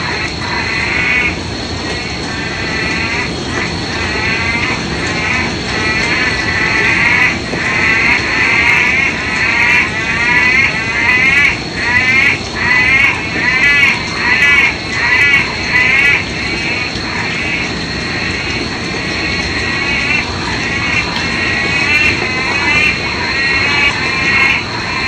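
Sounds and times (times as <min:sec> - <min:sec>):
frogs calling with trilling calls: 0:00.0 - 0:25.0.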